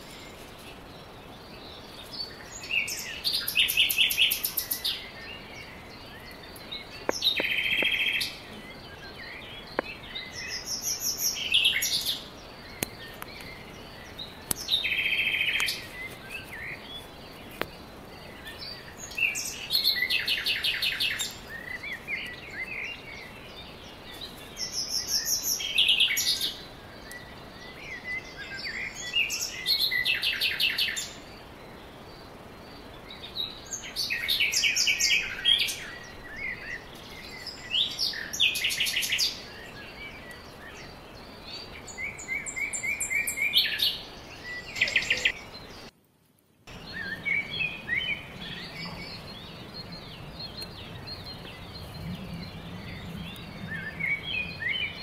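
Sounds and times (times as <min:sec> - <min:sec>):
faint steady hiss: 0:00.0 - 0:55.0
songbird singing: 0:00.0 - 0:55.0.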